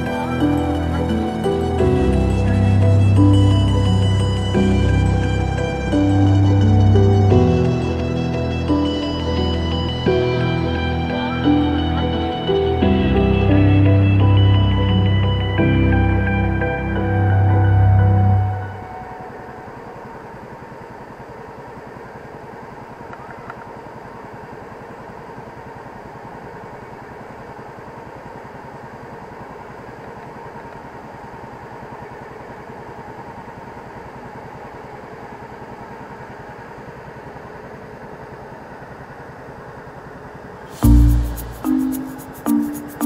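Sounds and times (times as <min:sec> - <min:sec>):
boat engine chugging: 0:00.0 - 0:43.0.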